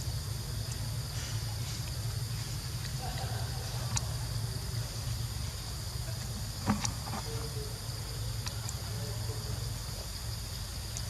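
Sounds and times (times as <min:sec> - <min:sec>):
insects chirring: 0:00.0 - 0:11.0
low constant hum: 0:00.0 - 0:11.0.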